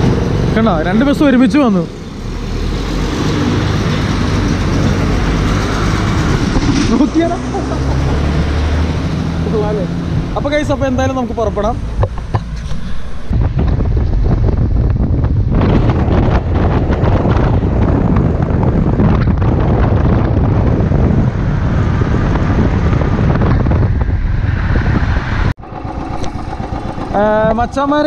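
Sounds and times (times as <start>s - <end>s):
motorcycle engine: 0.0s - 28.0s
road noise: 0.0s - 28.0s
wind buffeting microphone: 0.0s - 28.0s.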